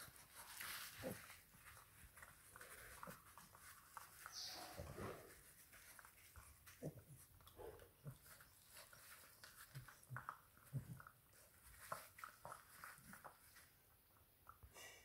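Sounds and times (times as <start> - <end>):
puppies gnawing on a chew: 0.0 - 14.8.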